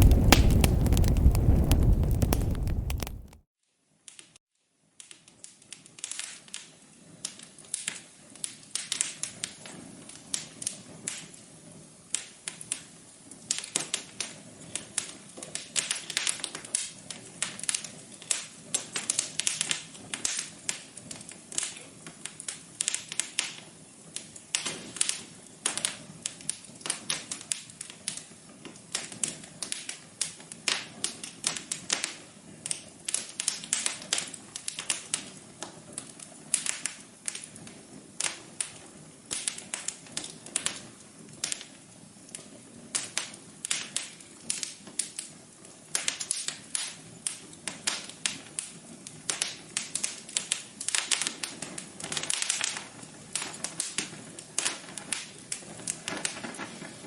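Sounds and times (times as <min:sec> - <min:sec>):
wood fire crackling: 0:00.0 - 0:03.4, 0:12.1 - 0:57.0.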